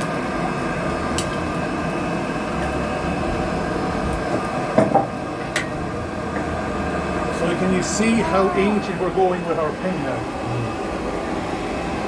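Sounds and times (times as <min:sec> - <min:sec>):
forge fire blowing and rumbling: 0:00.0 - 0:12.0.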